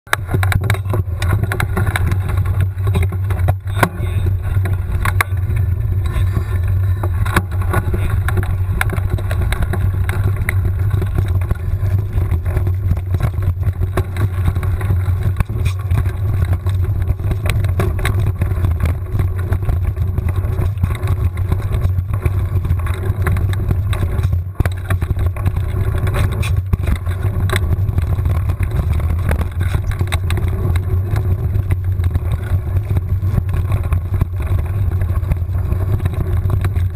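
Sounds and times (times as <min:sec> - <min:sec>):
bike clicks and rattles: 0:00.1 - 0:36.9
bike tyre noise on dirt: 0:00.1 - 0:36.9.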